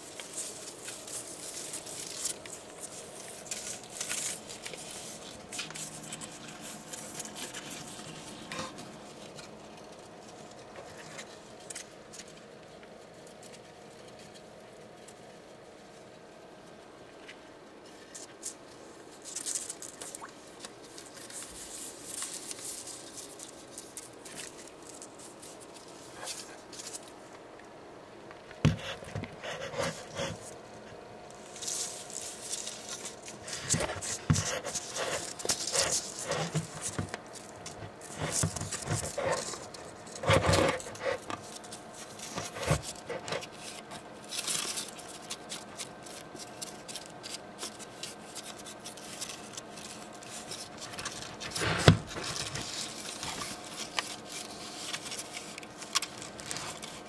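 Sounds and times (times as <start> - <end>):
geckos rustling on paper: 0.0 - 27.5, 28.3 - 57.0
faint steady hum: 0.0 - 57.0.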